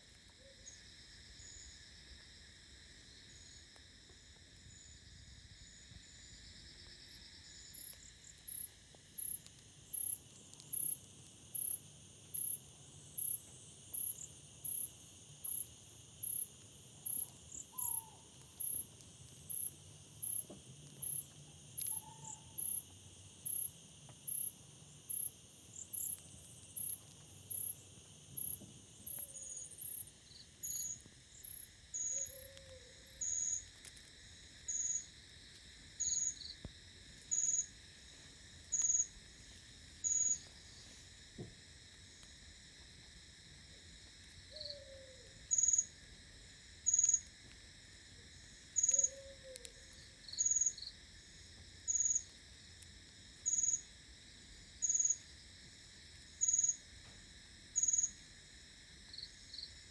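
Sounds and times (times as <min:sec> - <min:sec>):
crickets chirping: 0:00.0 - 0:59.9
high insect hum: 0:00.0 - 0:59.9.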